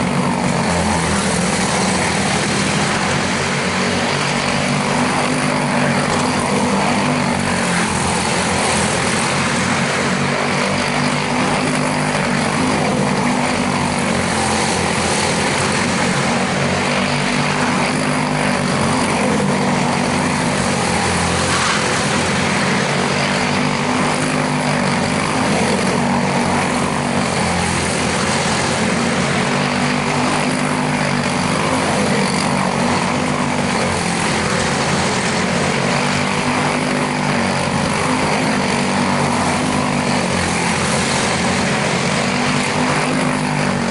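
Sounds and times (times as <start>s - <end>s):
race car engines buzzing: 0.0s - 43.9s.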